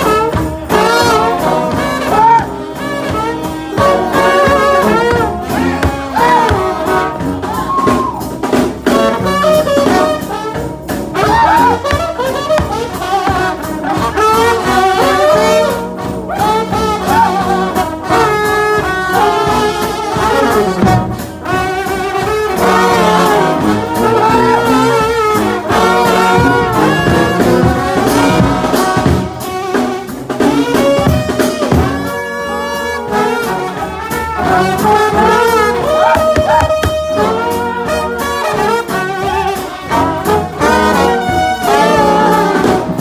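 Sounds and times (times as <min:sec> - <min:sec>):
trombone band playing a hymn: 0:00.0 - 0:43.0.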